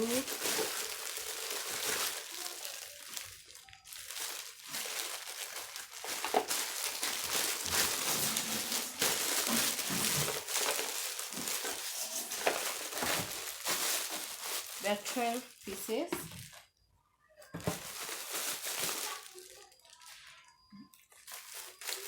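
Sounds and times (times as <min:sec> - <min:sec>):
packaging crinkling and rustling: 0:00.0 - 0:16.7, 0:17.5 - 0:22.0.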